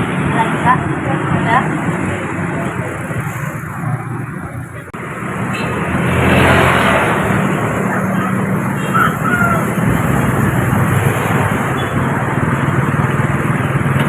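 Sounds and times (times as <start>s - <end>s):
street traffic noise: 0.0s - 14.0s
vehicle engine passing close: 0.0s - 14.0s.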